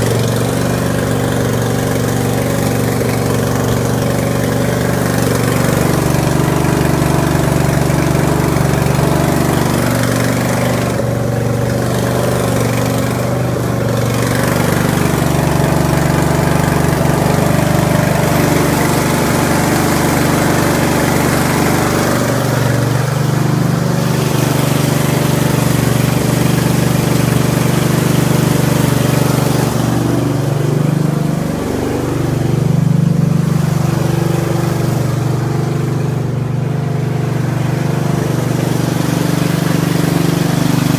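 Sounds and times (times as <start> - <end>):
engine idling on choke: 0.0 - 40.9.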